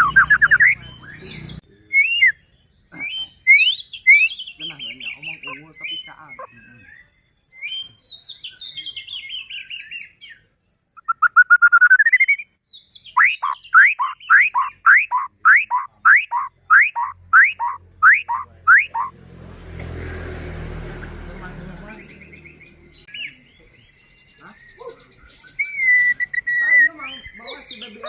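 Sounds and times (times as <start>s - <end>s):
bird singing: 0.0s - 19.2s, 20.3s - 28.0s.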